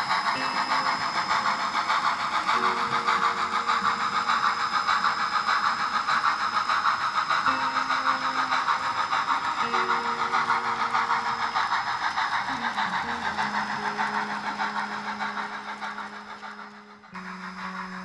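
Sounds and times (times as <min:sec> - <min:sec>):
low hum tones: 0:00.0 - 0:18.0
model steam locomotive chugging: 0:00.0 - 0:18.0.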